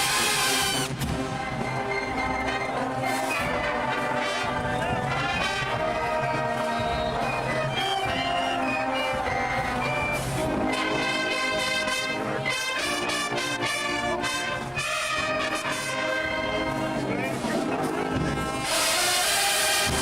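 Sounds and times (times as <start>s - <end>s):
marching band brass playing: 0.0s - 20.0s.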